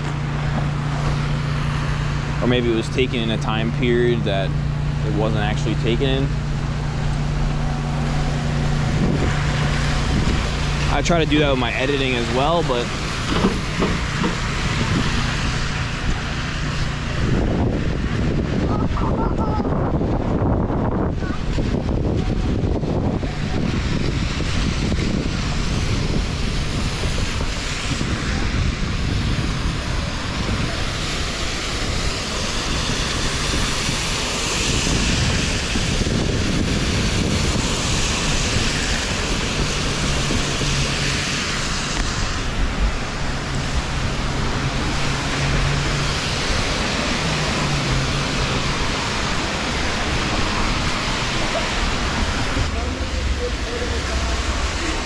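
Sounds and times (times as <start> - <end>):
rain hissing: 0.0 - 20.4, 21.0 - 55.0
traffic on wet pavement: 0.0 - 55.0
wind buffeting microphone: 0.0 - 55.0.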